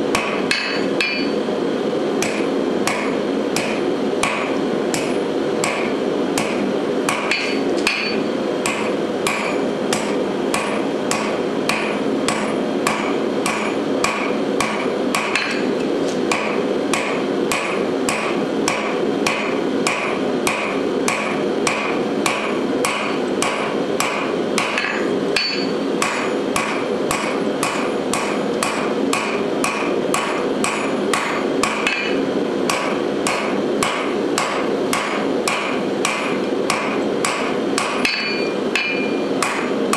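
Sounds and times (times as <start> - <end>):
steady background noise: 0.0 - 39.9
hammer striking steel on anvil: 0.1 - 1.5, 2.2 - 39.9.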